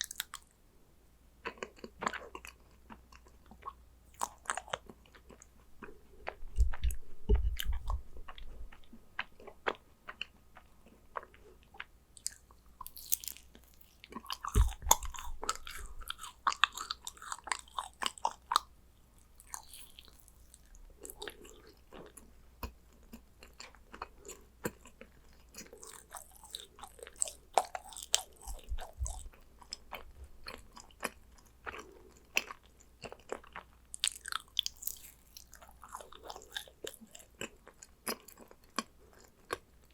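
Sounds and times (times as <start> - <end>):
close chewing and biting cookies: 0.0 - 0.6, 1.4 - 39.9.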